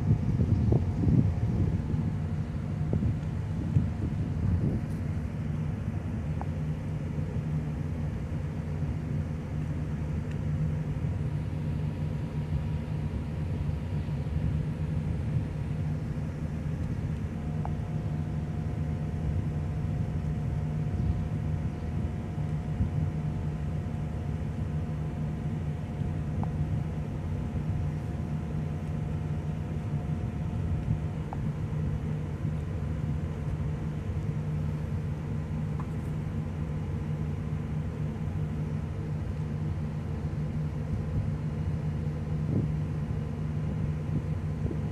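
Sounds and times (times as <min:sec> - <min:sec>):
ship engines droning: 0:00.0 - 0:44.9.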